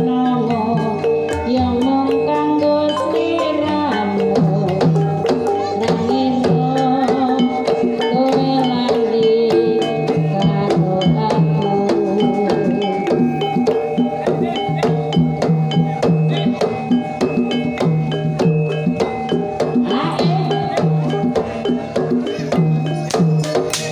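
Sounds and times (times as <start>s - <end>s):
metallophones and gongs ringing: 0.0s - 23.9s.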